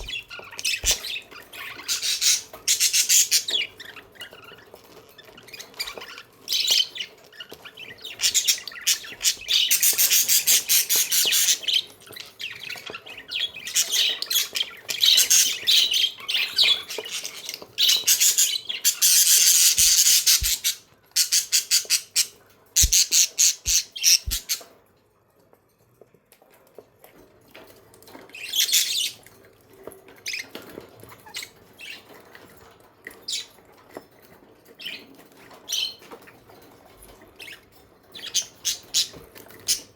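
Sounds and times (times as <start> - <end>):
budgies chirping and chattering: 0.0 - 24.8, 28.1 - 29.3, 30.2 - 32.4, 34.7 - 39.9.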